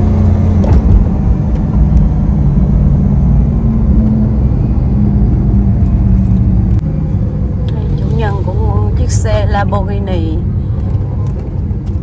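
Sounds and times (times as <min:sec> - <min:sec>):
sports car engine droning: 0:00.0 - 0:12.0.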